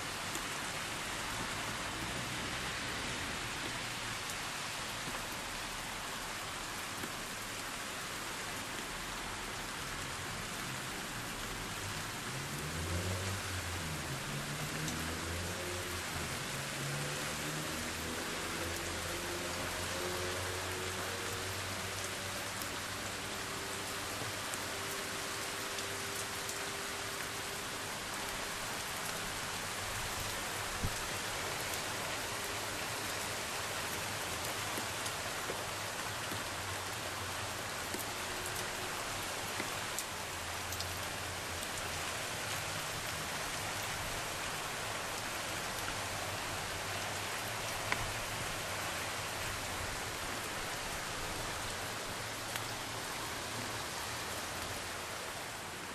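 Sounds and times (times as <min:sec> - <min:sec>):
heavy rain pattering: 0:00.0 - 0:55.9.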